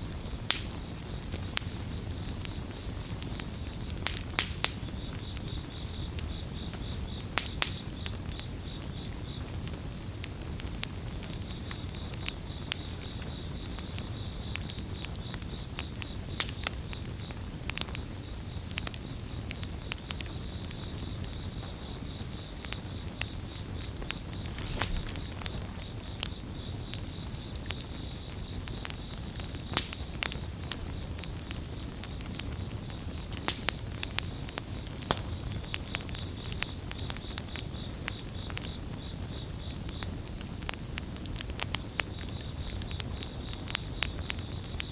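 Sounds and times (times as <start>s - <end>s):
campfire crackling and popping: 0.0s - 44.9s
low rumble of flames: 0.0s - 44.9s
cricket trilling: 0.1s - 44.9s.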